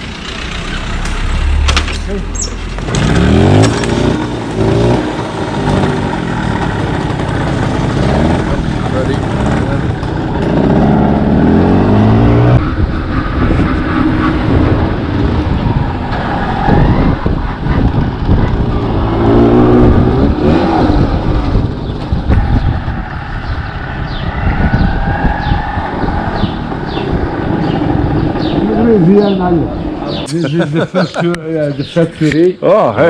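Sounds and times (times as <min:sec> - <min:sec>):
motorcycle engine accelerating: 0:00.0 - 0:30.3
riding noise: 0:00.0 - 0:32.4.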